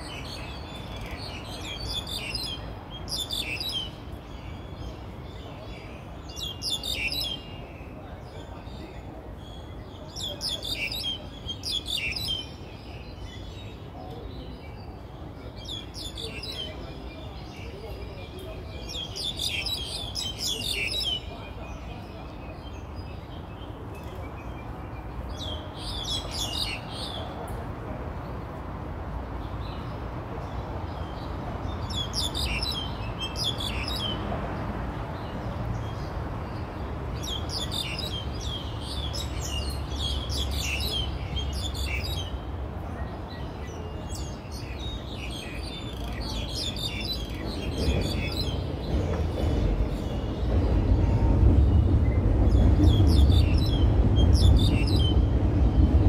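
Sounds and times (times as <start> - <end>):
birds chirping and singing: 0.0 - 27.4, 29.6 - 34.2, 35.1 - 56.0.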